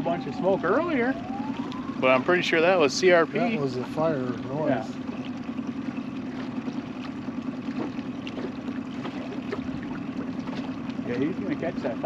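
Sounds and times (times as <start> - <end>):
boat motor humming: 0.0 - 12.0
rushing water: 0.0 - 12.0.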